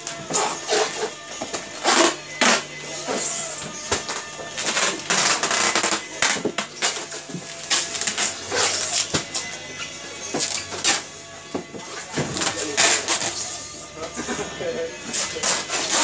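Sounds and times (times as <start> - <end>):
faint background music: 0.0 - 16.0
plastic tubs and boxes clattering: 0.2 - 9.5, 10.2 - 16.0.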